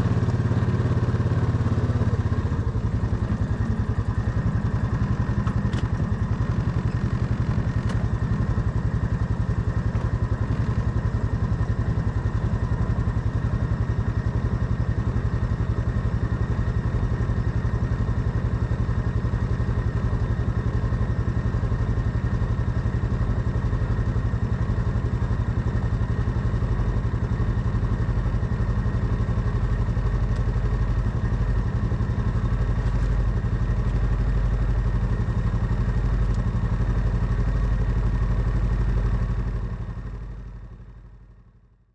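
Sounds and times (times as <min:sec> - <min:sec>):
quad bike engine idling: 0:00.0 - 0:41.8.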